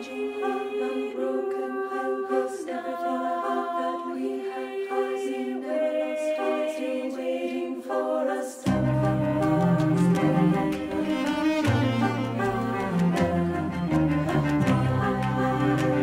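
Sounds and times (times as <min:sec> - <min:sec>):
choir singing in harmony: 0:00.0 - 0:16.0.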